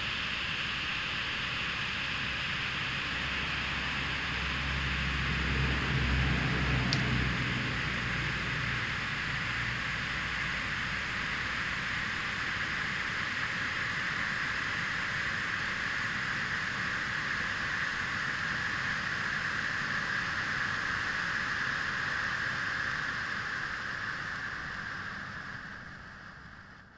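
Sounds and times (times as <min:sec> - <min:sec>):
flares burning with hiss: 0:00.0 - 0:26.9.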